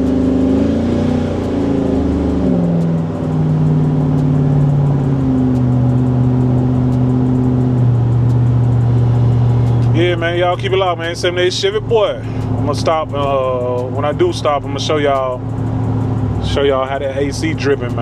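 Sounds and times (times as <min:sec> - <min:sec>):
car engine from inside cabin: 0:00.0 - 0:18.0.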